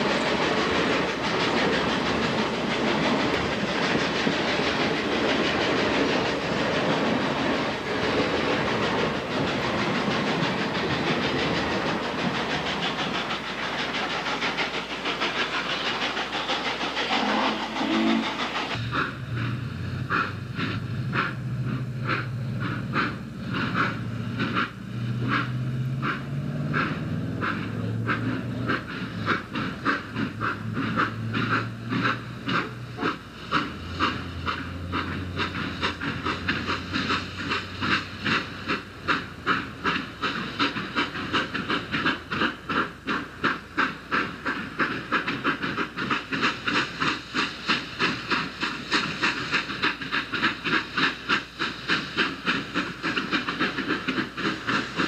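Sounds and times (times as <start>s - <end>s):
steam hiss: 0.0s - 55.0s
steam locomotive exhaust chuffs: 0.0s - 55.0s.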